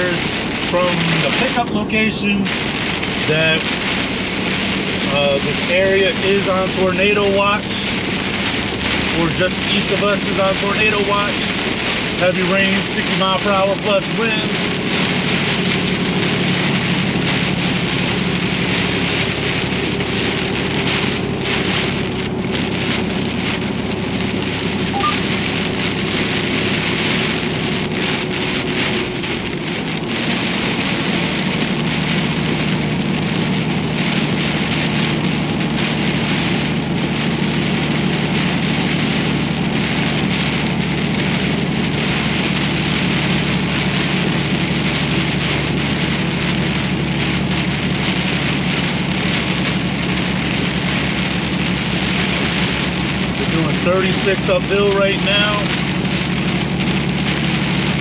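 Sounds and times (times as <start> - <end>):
heavy rain on truck windshield: 0.0 - 58.0
truck engine droning: 0.0 - 58.0.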